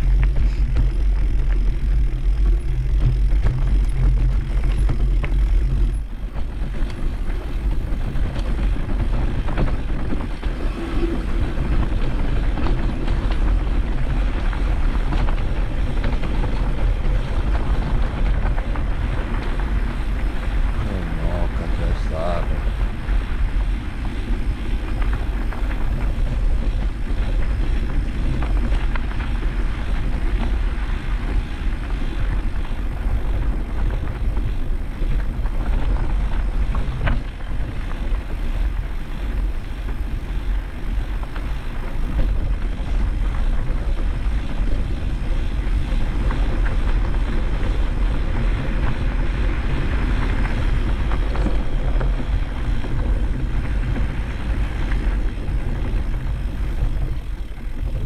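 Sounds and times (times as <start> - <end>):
motocross motorcycle engines: 0.0 - 43.1, 53.0 - 58.0
wind buffeting microphone: 0.0 - 58.0.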